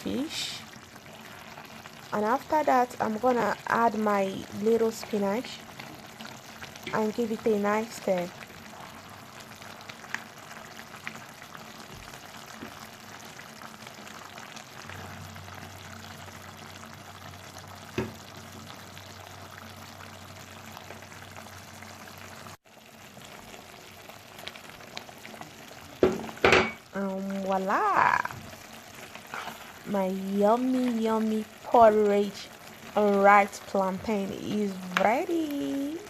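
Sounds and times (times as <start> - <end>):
pot bubbling: 0.0 - 36.0.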